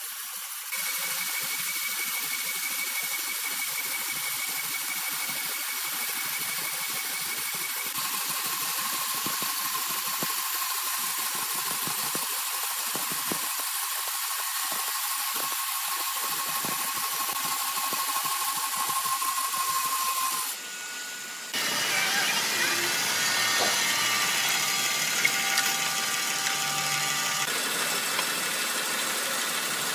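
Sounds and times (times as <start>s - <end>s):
band saw blade whining through log: 0.4s - 29.9s.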